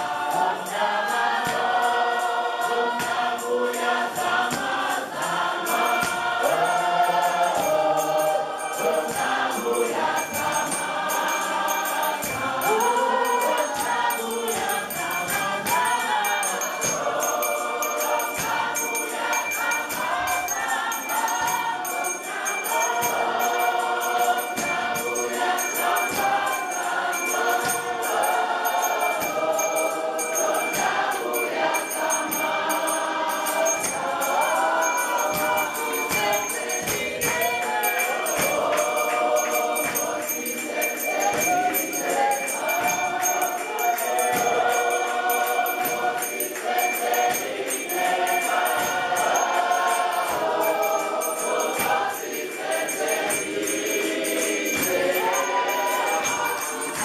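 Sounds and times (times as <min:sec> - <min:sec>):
church choir singing: 0:00.0 - 0:57.0
steady percussive beat: 0:00.0 - 0:57.0.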